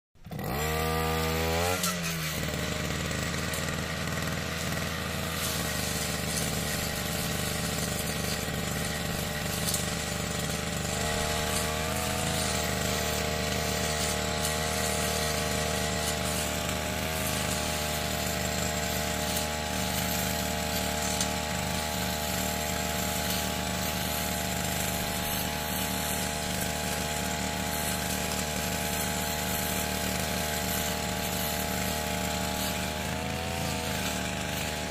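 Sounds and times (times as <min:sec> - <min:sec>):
brush cutter engine revving: 0:00.2 - 0:34.9.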